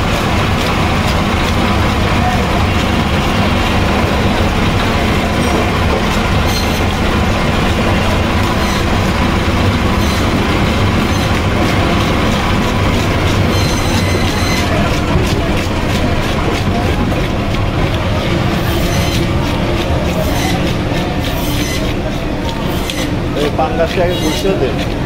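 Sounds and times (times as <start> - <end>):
rumbling and clattering noise: 0.0 - 25.0.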